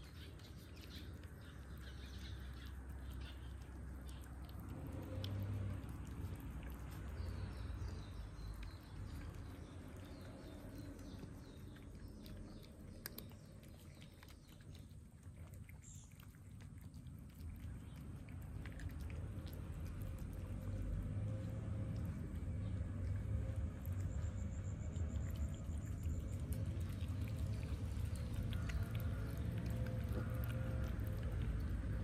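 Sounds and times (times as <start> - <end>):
cats chewing and crunching food: 0.0 - 32.0.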